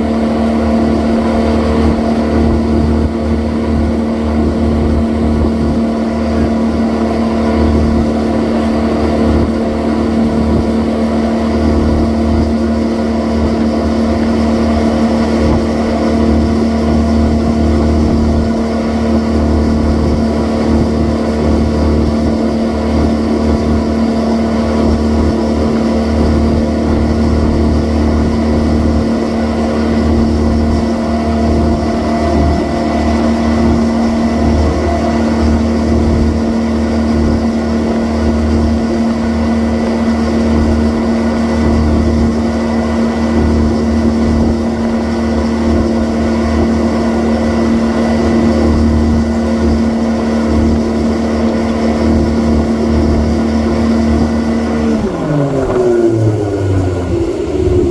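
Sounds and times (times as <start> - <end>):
boat engine running: 0.0 - 57.9.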